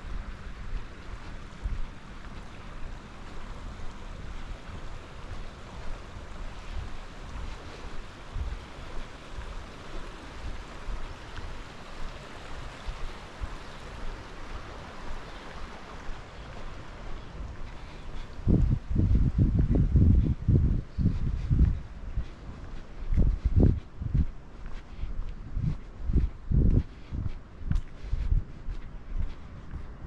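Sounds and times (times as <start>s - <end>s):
steady outdoor hiss: 0.0s - 30.0s
wind buffeting microphone: 0.0s - 30.0s.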